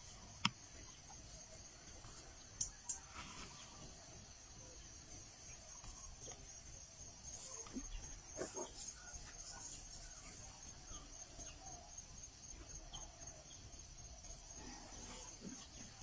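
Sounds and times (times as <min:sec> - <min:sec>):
high insect chorus: 0:00.0 - 0:16.0.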